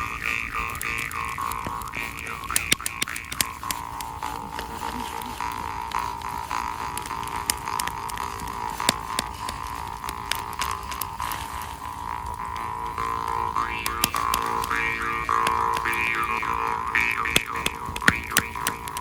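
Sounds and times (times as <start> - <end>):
campfire crackling: 0.0 - 19.0
jaw harp droning: 0.0 - 19.0.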